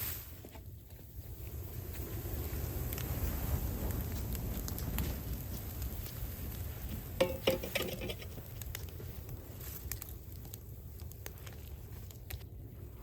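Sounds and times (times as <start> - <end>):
burning wood crackling and popping: 0.0 - 13.0.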